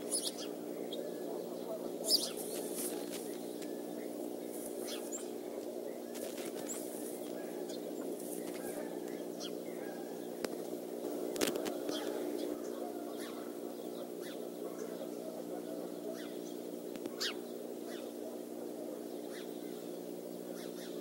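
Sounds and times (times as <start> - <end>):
small songbirds chirping: 0.0 - 21.0
steady low hum: 0.0 - 21.0.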